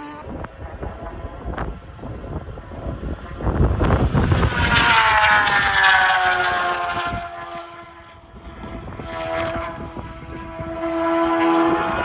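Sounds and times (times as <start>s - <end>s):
motorcycle engine: 0.0s - 12.0s
racing motorcycle passing by: 0.0s - 12.0s.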